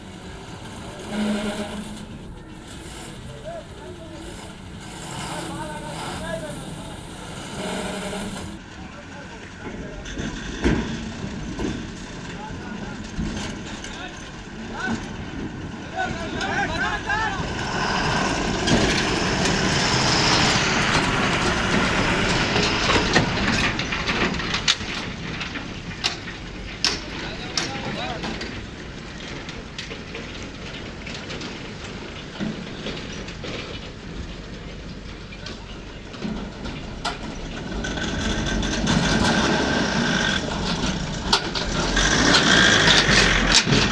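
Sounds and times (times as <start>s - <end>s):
truck engine running under load: 0.0s - 43.9s.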